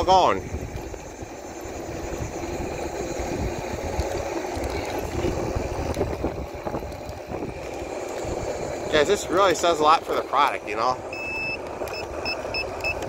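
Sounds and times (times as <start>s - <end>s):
gusty low rumble: 0.0s - 11.1s
electric scooter rattling and humming: 0.0s - 13.0s.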